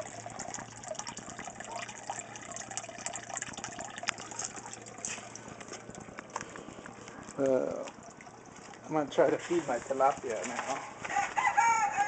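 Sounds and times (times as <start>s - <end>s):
water splashing into tank: 0.0s - 10.7s.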